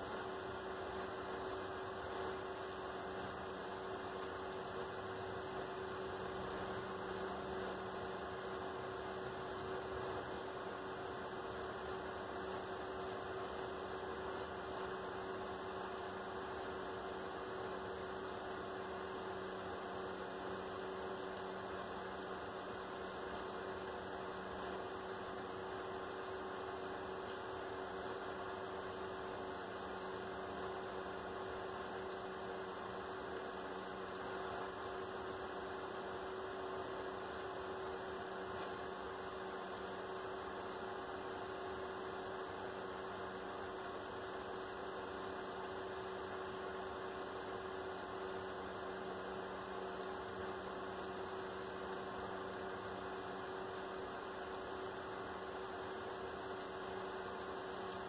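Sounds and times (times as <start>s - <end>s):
electrical hum: 0.0s - 58.0s
faint hiss: 0.0s - 58.0s.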